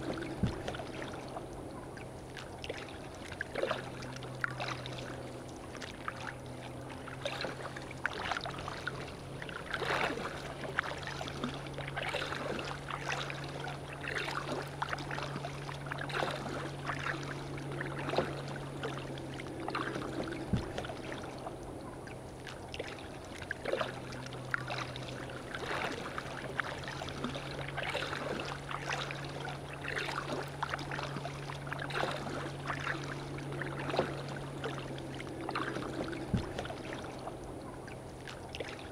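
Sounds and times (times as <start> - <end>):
steady low hum: 0.0 - 38.9
water splashing against kayak: 0.0 - 38.9.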